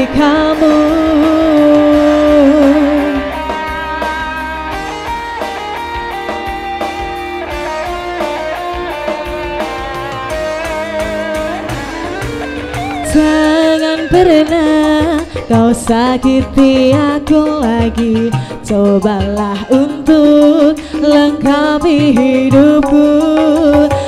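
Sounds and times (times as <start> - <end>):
electric guitar melody: 0.0 - 24.0
steady drum beat: 0.0 - 24.0.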